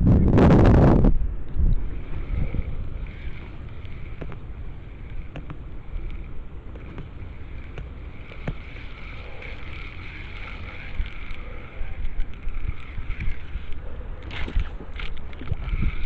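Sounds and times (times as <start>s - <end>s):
wind buffeting microphone: 0.0s - 16.0s
small clicks: 1.5s - 16.0s.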